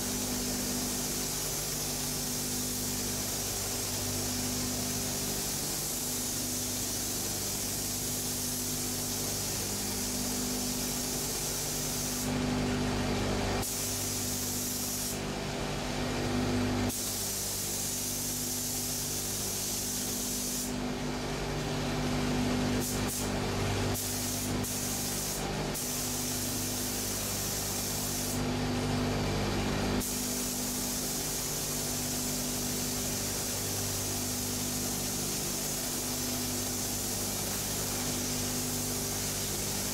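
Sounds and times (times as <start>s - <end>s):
spray gun air hiss: 0.0s - 15.4s, 16.4s - 20.8s, 22.3s - 39.9s.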